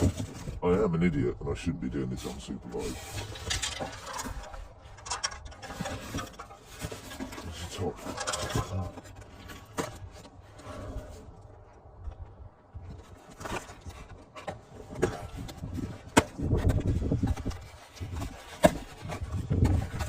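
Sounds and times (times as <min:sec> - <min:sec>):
cardboard rubbing and scraping: 0:00.0 - 0:00.6, 0:02.7 - 0:11.4, 0:12.9 - 0:20.0.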